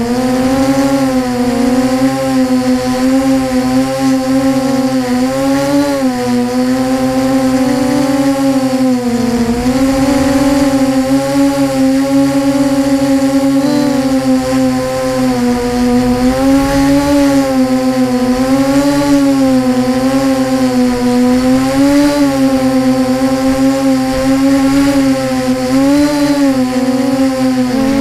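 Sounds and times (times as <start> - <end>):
drone motors and propellers whining: 0.0 - 28.0.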